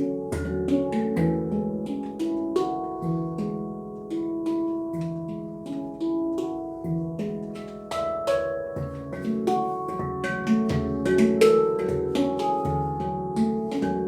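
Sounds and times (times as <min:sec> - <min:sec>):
deep handpan bass notes: 0:00.0 - 0:14.0
handpan melody: 0:00.0 - 0:14.0.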